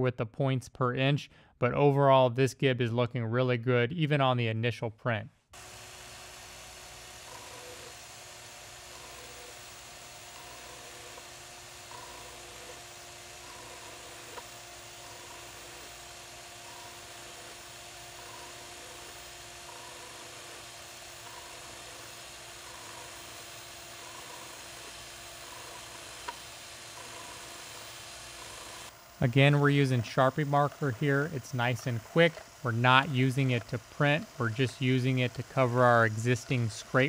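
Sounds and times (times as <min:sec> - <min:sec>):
power scraper buzzing: 0:05.6 - 0:37.0.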